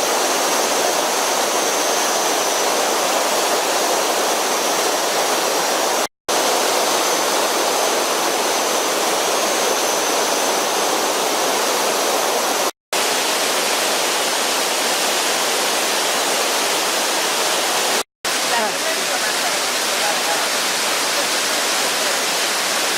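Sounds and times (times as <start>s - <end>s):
waterfall and stream rushing: 0.0s - 22.9s.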